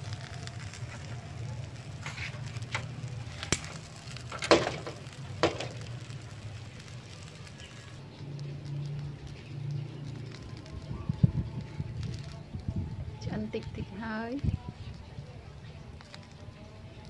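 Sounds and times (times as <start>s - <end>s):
meat sizzling on a grill: 0.0s - 17.0s
sharp crackling pops: 0.0s - 17.0s.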